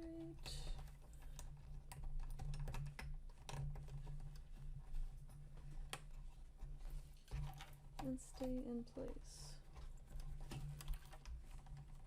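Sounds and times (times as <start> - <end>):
plastic parts clicking and tapping: 0.0 - 12.0.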